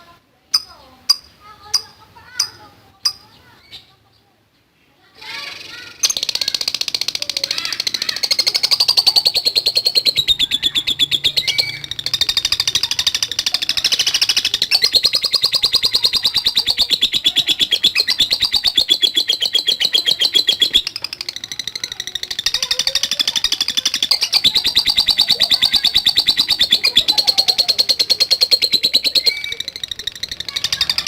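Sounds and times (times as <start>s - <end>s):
lovebird chattering: 0.5s - 4.0s, 5.2s - 31.0s.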